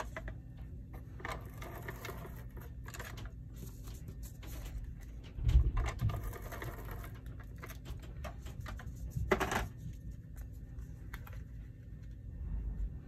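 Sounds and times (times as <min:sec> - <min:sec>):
paper handling: 0:01.0 - 0:12.2.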